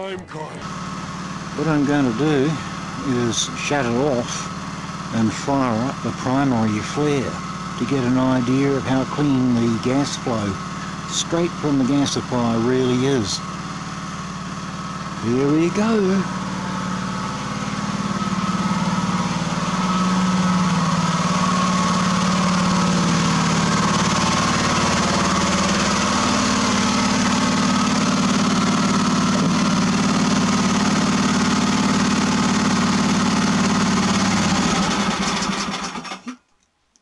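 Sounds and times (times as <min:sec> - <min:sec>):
generator engine running: 0:00.0 - 0:36.4.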